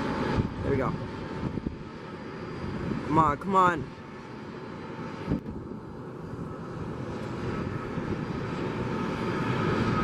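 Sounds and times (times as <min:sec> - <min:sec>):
jet engines at takeoff: 0:00.0 - 0:10.0.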